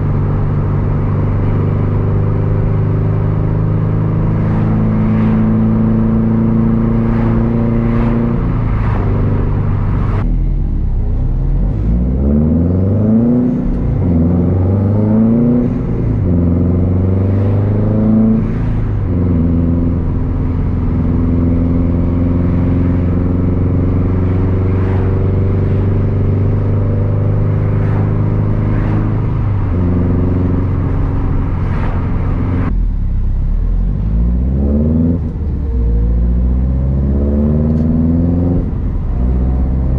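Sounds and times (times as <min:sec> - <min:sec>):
car engine revving loudly: 0:00.0 - 0:10.2, 0:11.7 - 0:32.7, 0:33.9 - 0:39.9.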